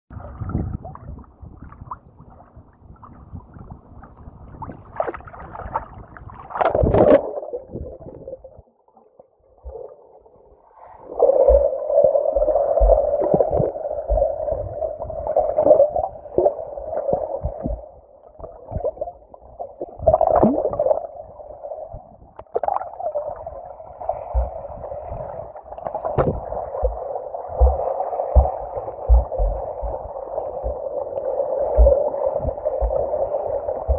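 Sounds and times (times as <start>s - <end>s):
water splashing against microphone: 0.1s - 21.2s, 22.0s - 33.9s
muffled underwater rush: 0.1s - 33.9s.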